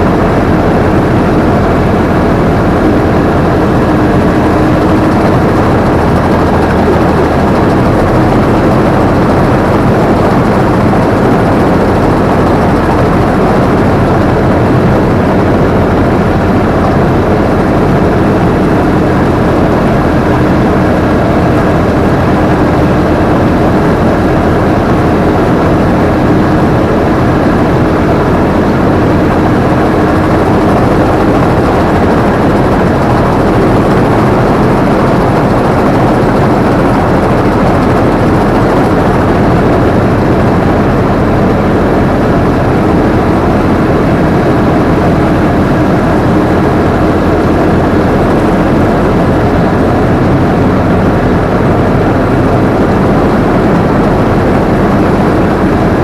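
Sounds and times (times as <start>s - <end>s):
combine harvester engine and machinery: 0.0s - 56.0s.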